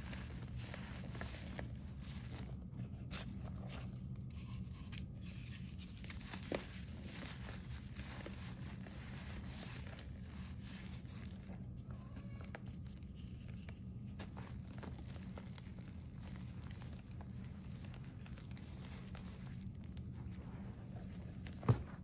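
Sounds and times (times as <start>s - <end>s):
chalk crunching and crackling: 0.0s - 22.0s
steady low hum: 0.0s - 22.0s.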